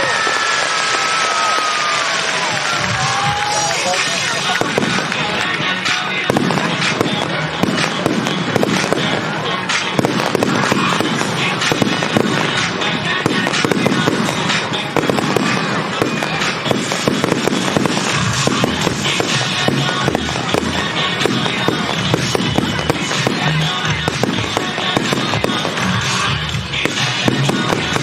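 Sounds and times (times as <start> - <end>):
fireworks bursting and crackling: 0.0 - 28.0
music over loudspeakers: 2.8 - 28.0.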